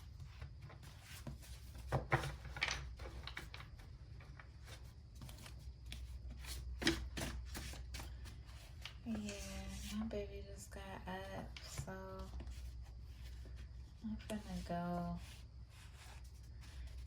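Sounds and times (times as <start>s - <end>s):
objects rustling and tapping: 0.0s - 10.2s, 11.2s - 14.8s.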